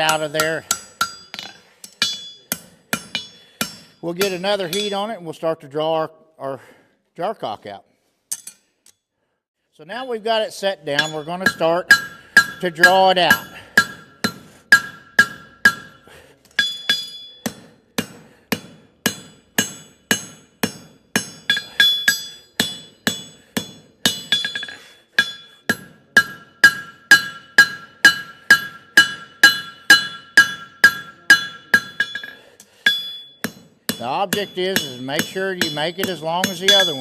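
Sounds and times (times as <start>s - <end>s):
hammer striking hot steel on anvil: 0.0s - 5.1s, 10.9s - 37.0s.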